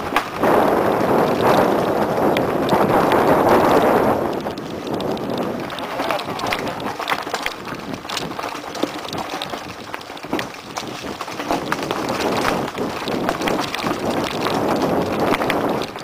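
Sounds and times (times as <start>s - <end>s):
bike rattling: 0.0s - 16.0s
tyres crunching over gravel: 0.0s - 16.0s.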